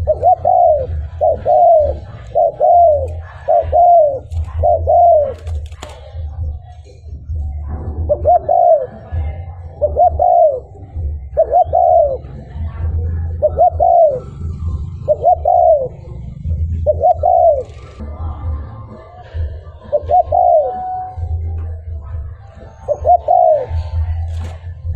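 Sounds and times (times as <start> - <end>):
dove cooing: 0.0 - 6.7, 7.3 - 24.9
steady low rumble: 0.0 - 20.3.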